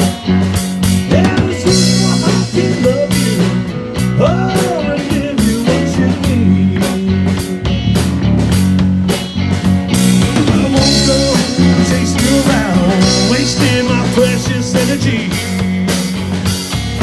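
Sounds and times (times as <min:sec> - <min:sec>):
electric bass low notes: 0:00.0 - 0:17.0
electric guitar lead: 0:00.0 - 0:17.0.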